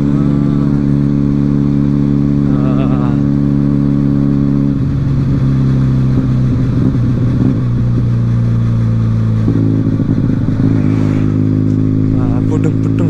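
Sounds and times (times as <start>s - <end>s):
motorcycle exhaust at cruising speed: 0.0s - 13.0s.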